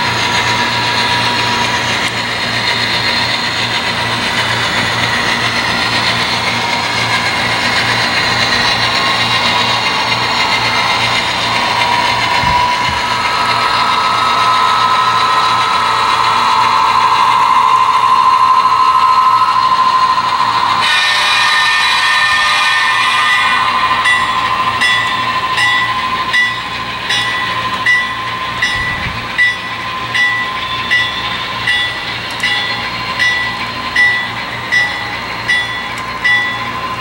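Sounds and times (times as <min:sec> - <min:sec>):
higher model train whine: 0:00.0 - 0:37.0
model train whine and rumble: 0:00.0 - 0:37.0.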